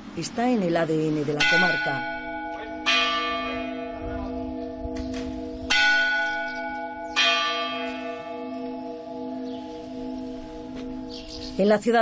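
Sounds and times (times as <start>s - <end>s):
church bell tolling: 1.4s - 12.0s.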